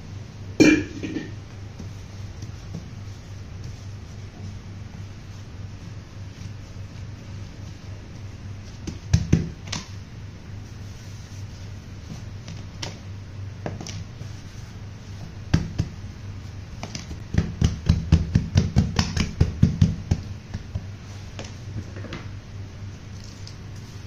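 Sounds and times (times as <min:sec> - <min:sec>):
palms patting dough: 0:00.0 - 0:24.0
steady low hum: 0:00.0 - 0:24.0.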